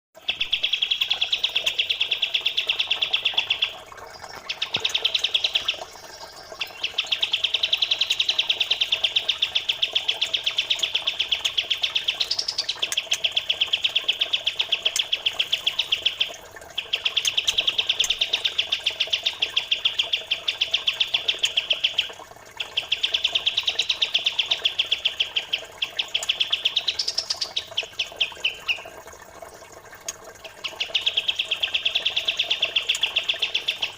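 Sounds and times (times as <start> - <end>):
songbird chirping trills: 0.2 - 29.0, 30.4 - 33.9
faint trickle of flowing water: 0.2 - 33.9.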